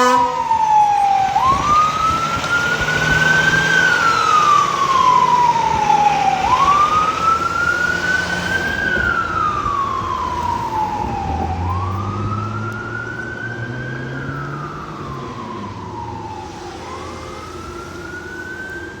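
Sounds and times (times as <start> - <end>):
fire truck siren wailing: 0.0 - 19.0
truck engine running: 0.2 - 19.0.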